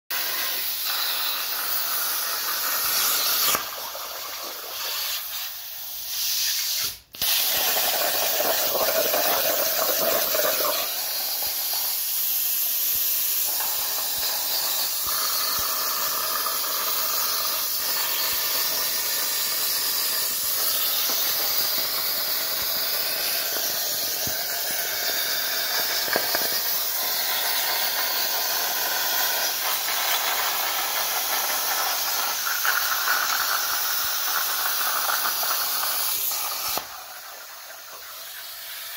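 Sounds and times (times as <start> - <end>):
plasma cutter hissing: 0.1 - 38.9.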